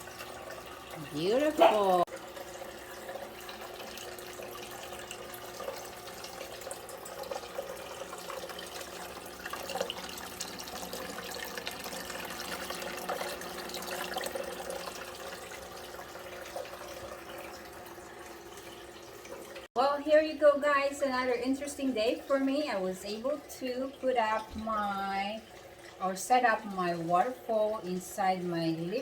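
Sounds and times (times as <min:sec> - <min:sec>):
water drips: 0:00.0 - 0:19.7, 0:21.3 - 0:29.0
tabletop fountain water trickling: 0:00.0 - 0:29.0.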